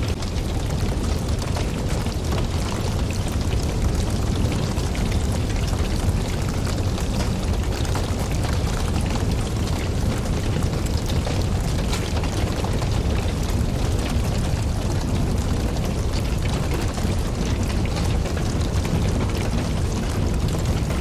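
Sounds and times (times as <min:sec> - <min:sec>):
burning wood crackling and popping: 0:00.0 - 0:21.0
rush of campfire flame: 0:00.0 - 0:21.0.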